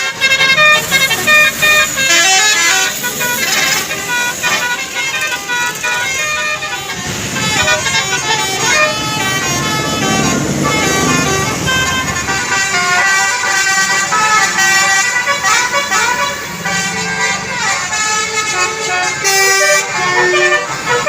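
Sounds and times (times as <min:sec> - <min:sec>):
bus engine and road noise: 0:00.0 - 0:21.0
musical air horn tune: 0:00.0 - 0:21.0.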